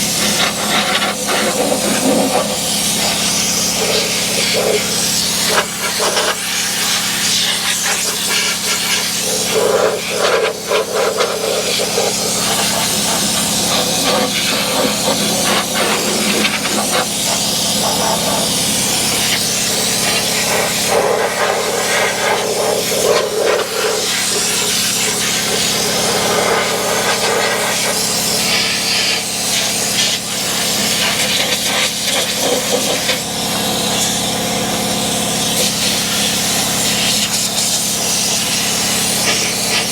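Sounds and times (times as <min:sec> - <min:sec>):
pneumatic spray gun hissing: 0:00.0 - 0:39.9.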